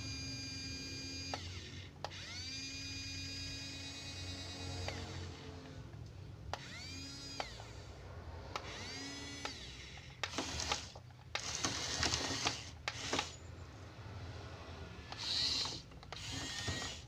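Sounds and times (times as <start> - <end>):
toy electric motors whirring: 0.0 - 5.9, 6.5 - 7.9, 8.5 - 13.5, 15.0 - 17.0.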